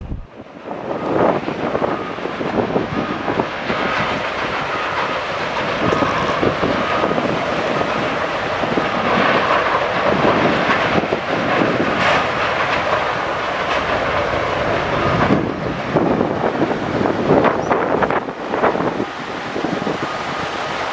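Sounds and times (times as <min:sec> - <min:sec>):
sawmill machinery clattering: 0:00.9 - 0:20.9.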